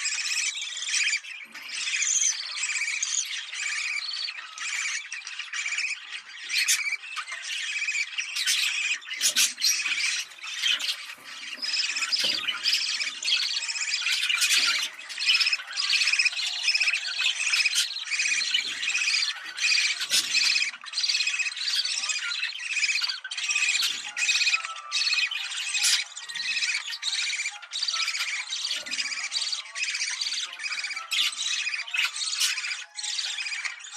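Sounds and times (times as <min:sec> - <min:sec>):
budgerigars chattering and warbling: 0:00.0 - 0:33.9.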